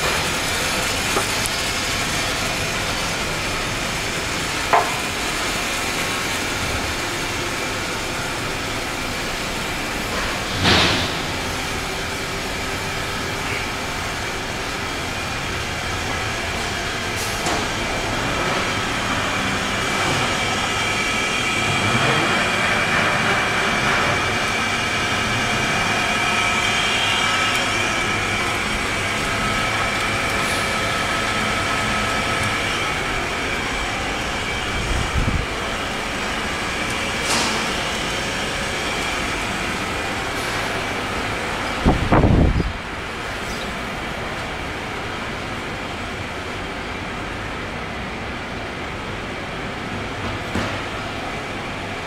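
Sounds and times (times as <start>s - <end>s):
factory machinery noise: 0.0s - 52.0s.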